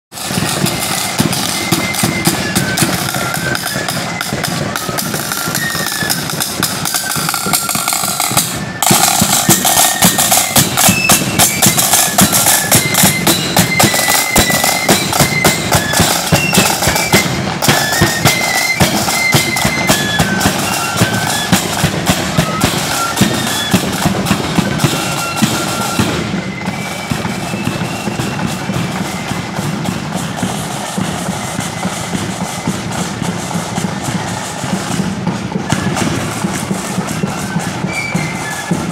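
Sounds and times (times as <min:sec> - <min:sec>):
flutes playing a tune: 0:00.1 - 0:38.9
side drums and bass drum: 0:00.1 - 0:38.9.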